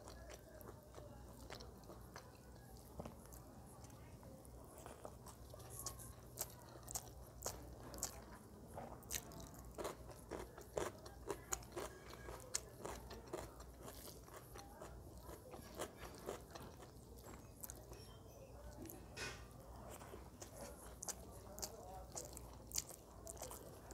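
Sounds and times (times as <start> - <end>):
wet chewing: 0.0 - 23.9.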